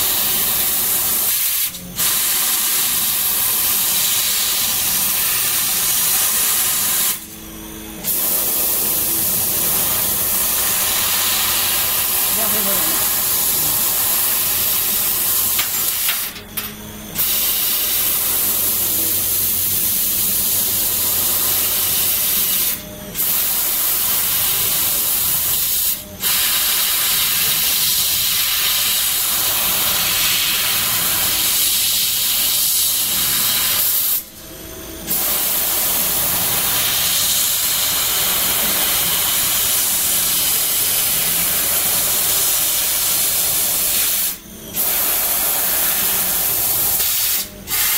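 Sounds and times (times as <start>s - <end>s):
laser cutter gas jet hissing: 0.0s - 34.4s, 35.0s - 47.9s.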